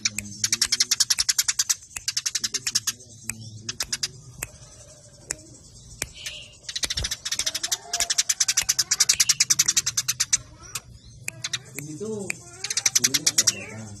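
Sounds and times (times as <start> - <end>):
sparrows chirping: 0.0 - 14.0.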